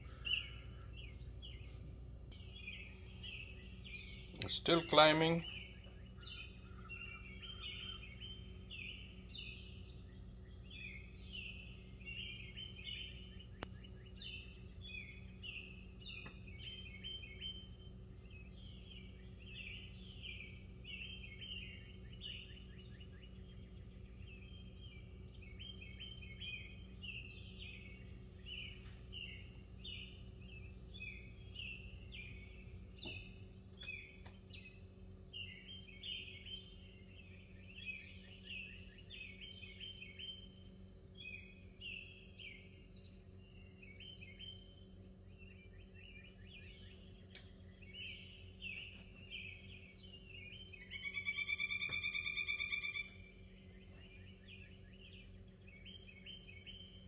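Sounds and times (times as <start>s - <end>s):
faint birdsong chirps: 0.0s - 57.0s
steady low hum: 0.0s - 57.0s.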